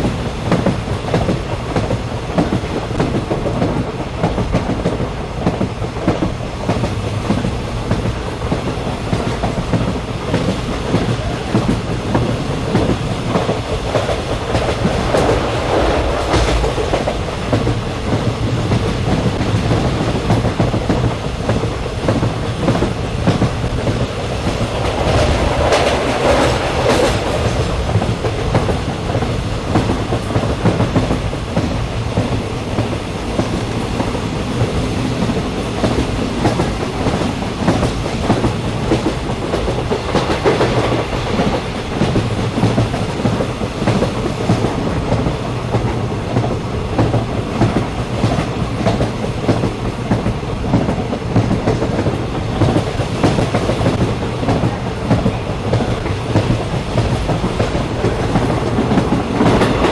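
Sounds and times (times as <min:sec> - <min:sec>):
train rumbling on track: 0:00.0 - 0:59.9
wheels clacking over rail joints: 0:00.0 - 0:59.9.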